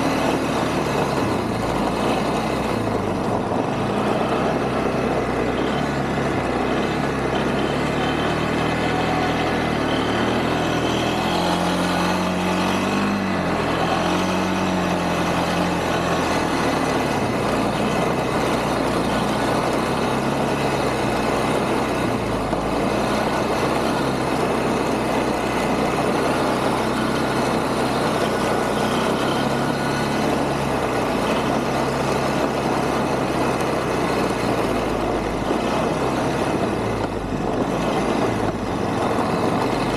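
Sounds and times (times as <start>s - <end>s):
quad engine running: 0.0s - 39.9s
steady rushing noise: 0.0s - 39.9s.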